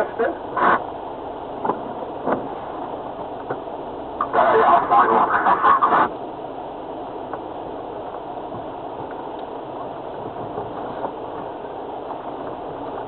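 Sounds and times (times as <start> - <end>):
vehicle interior running noise: 0.0 - 13.0.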